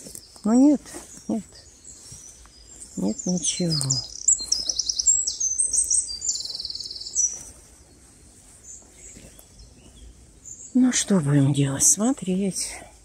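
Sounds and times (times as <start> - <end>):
songbird singing trills: 0.0 - 13.0.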